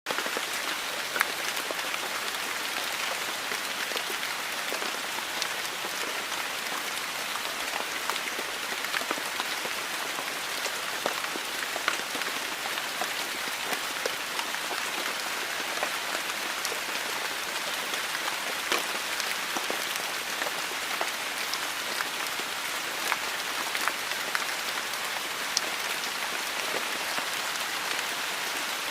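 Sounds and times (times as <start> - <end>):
rain on a hard surface: 0.1 - 28.9.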